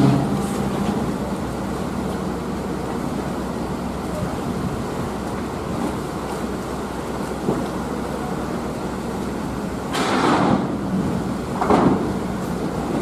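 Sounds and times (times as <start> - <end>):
ferry engines humming: 0.0 - 13.0
water: 0.0 - 13.0
wind: 0.0 - 13.0.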